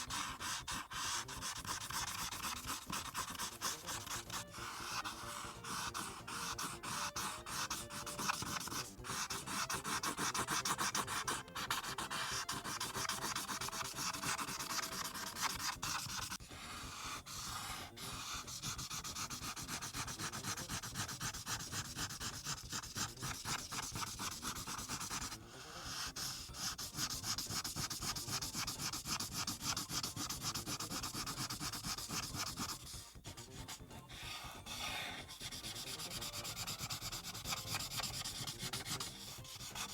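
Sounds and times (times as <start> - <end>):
marker scribbling on paper: 0.0 - 39.9.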